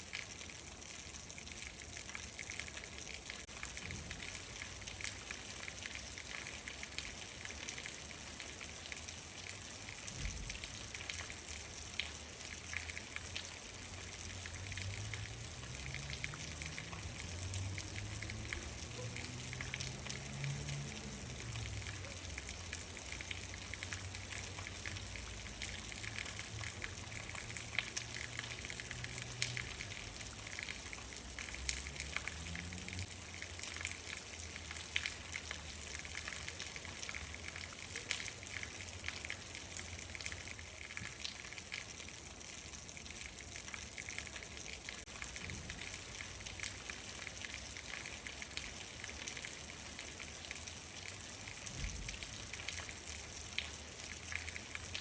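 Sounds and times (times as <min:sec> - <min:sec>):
rain hiss: 0:00.0 - 0:55.0
raindrops ticking close by: 0:00.0 - 0:55.0.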